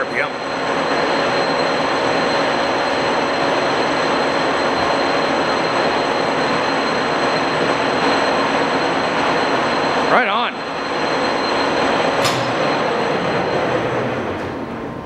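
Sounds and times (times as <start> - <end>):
lathe whirring: 0.0 - 15.0
thin high whine: 0.0 - 15.0.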